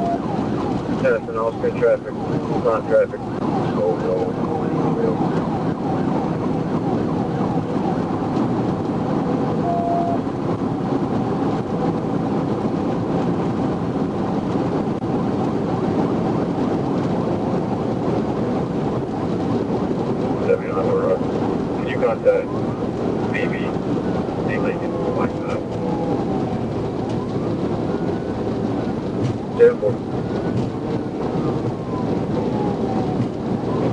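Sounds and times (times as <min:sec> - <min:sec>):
police siren wailing: 0:00.0 - 0:33.9
road and wind noise: 0:00.0 - 0:33.9.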